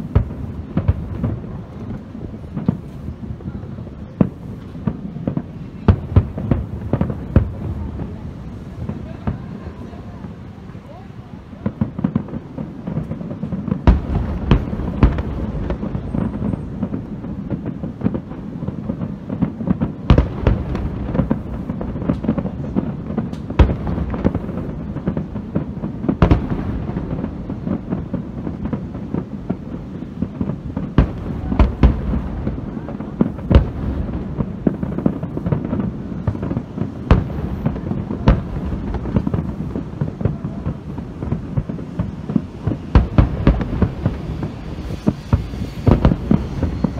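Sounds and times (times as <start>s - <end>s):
fireworks booming: 0.0s - 46.9s
sharp firework cracks: 0.0s - 46.9s.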